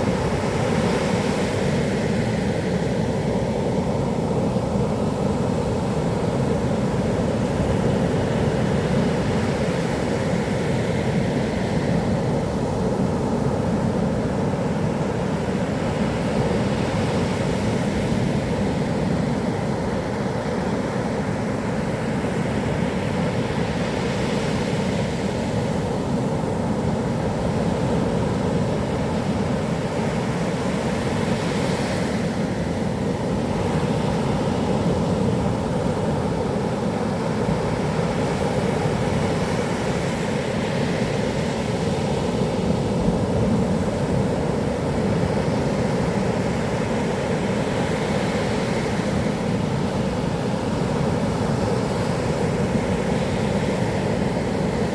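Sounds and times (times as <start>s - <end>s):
heavy surf breaking on beach: 0.0s - 54.9s.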